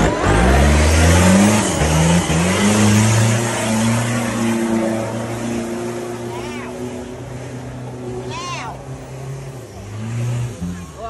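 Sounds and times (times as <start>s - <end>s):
off-road engine revving hard: 0.0s - 11.0s.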